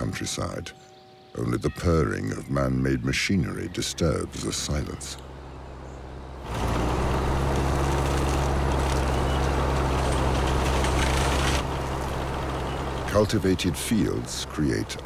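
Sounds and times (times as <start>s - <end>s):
tractor engine drone: 1.4s - 15.0s.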